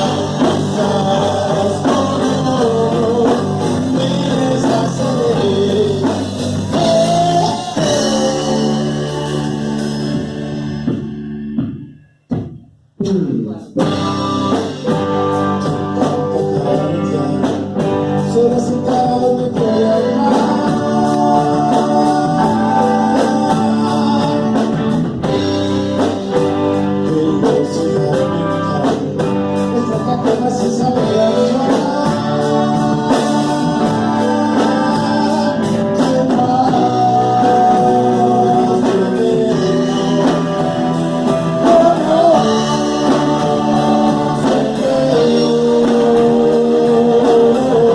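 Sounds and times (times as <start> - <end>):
person singing: 0.0 - 10.3, 13.0 - 47.9
live band playing: 0.0 - 47.9.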